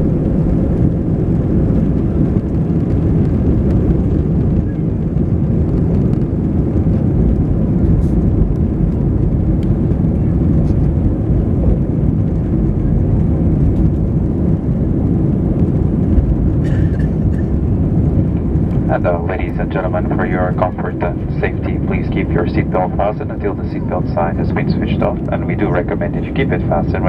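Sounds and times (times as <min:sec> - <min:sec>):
jet engine cabin rush: 0:00.0 - 0:27.0.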